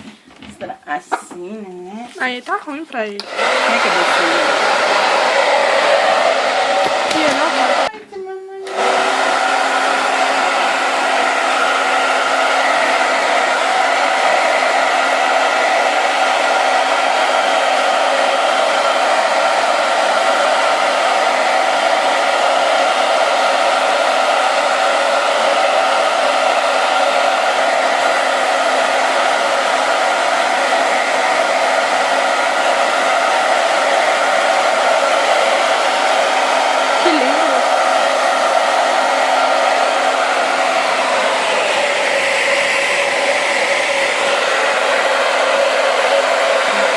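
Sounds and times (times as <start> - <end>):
hair dryer blowing: 2.0 - 46.9.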